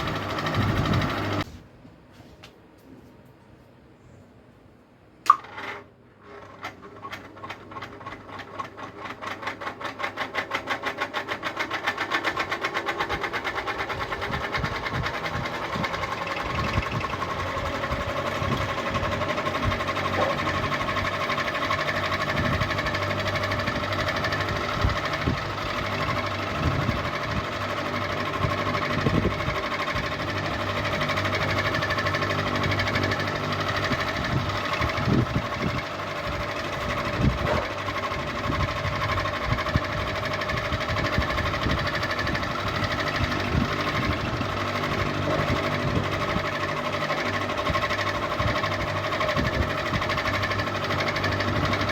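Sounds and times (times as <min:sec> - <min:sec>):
ceiling fan spinning with hum: 0:00.0 - 0:51.9.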